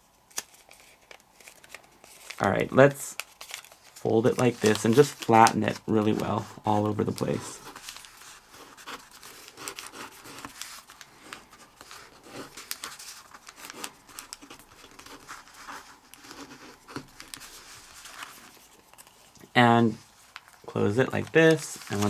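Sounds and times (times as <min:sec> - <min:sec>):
paper rustling and crinkling: 0:00.3 - 0:22.0.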